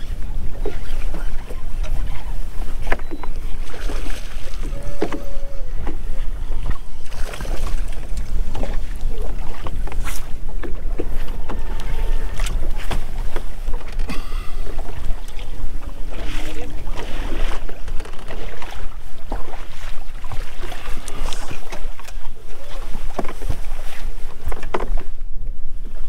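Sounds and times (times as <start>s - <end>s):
waves slapping boat hull: 0.0s - 26.0s
wind buffeting microphone: 0.0s - 26.0s.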